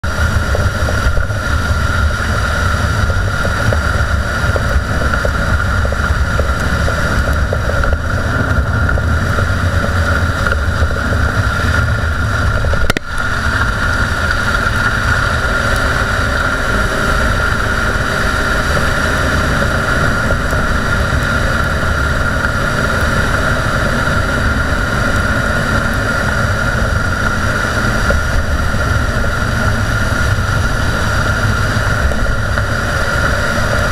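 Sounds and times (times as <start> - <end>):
road and tyre rumble: 0.0 - 33.9
wheel bearing whine: 0.0 - 33.9.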